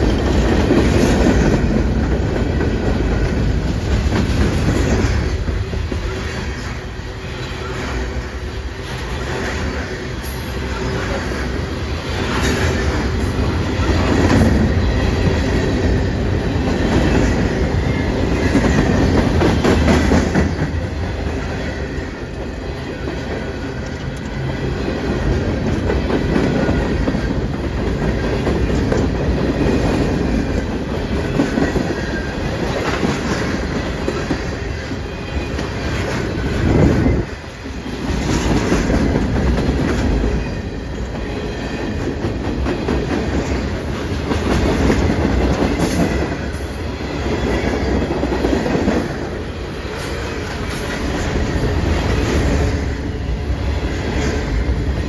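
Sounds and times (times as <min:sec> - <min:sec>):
train wheels clacking: 0:00.0 - 0:55.0.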